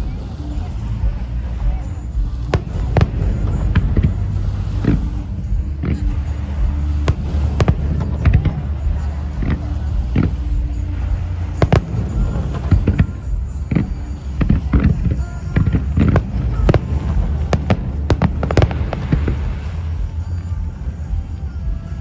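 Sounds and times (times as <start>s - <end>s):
fireworks booming and cracking: 0.0s - 21.9s
low rumble: 0.0s - 22.0s.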